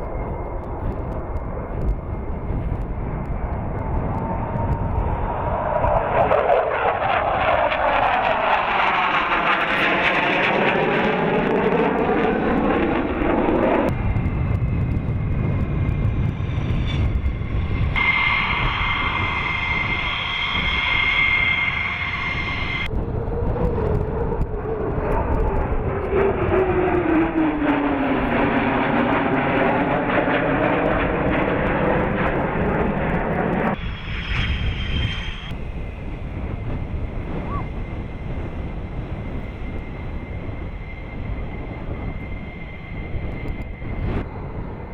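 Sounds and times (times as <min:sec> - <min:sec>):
jet engine high whine: 0:00.0 - 0:44.9
jet passing: 0:00.0 - 0:44.9
low rumble: 0:00.0 - 0:44.9.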